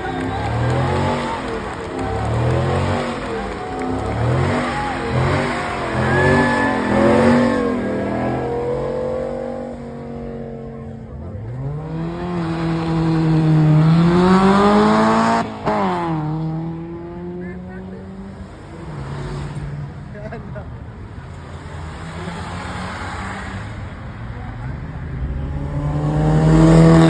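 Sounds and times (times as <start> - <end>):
car engine revving hard: 0.0 - 10.6, 11.2 - 20.1, 24.8 - 27.0.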